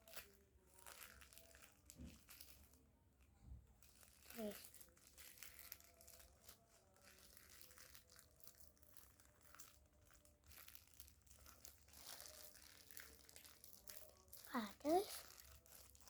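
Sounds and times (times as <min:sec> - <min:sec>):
packaging crinkling and rustling: 0:00.0 - 0:02.8, 0:03.8 - 0:16.0.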